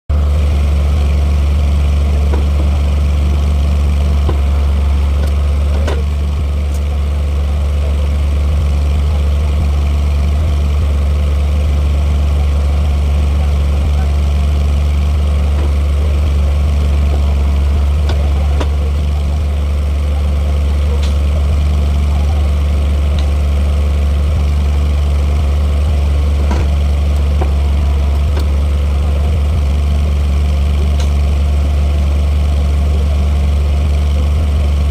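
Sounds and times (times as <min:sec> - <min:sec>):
bending machine humming: 0:00.1 - 0:34.9.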